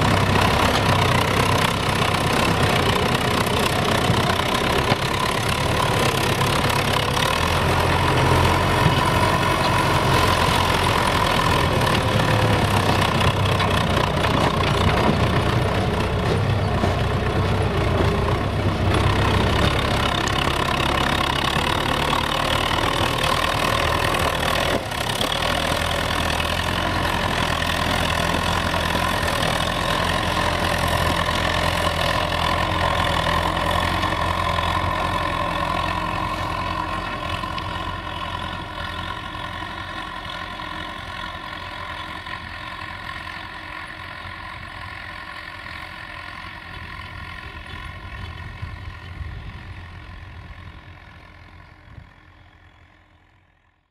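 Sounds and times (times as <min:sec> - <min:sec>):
tractor diesel engine under load: 0:00.0 - 0:53.9.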